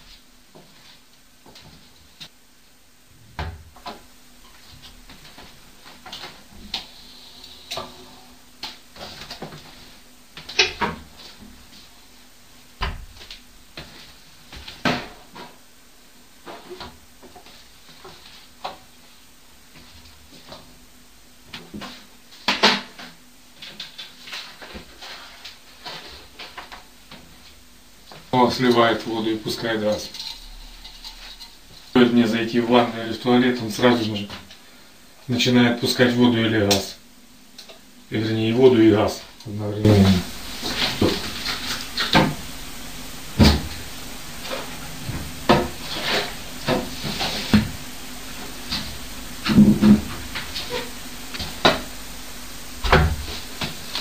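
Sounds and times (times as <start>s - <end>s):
faint hissing: 0.0s - 54.0s.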